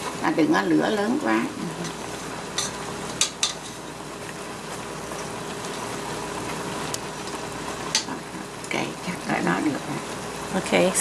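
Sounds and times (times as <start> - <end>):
pork sizzling in a pot: 0.0 - 11.0.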